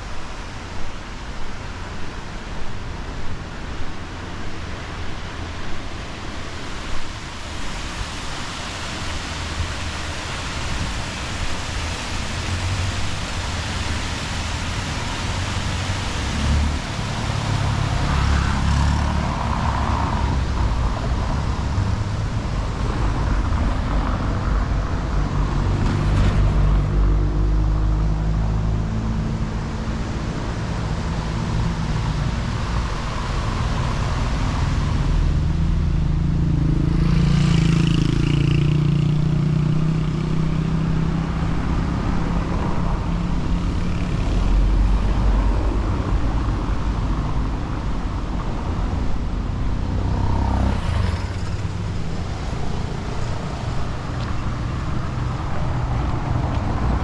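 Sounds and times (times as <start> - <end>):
cars driving past: 7.8 - 57.0.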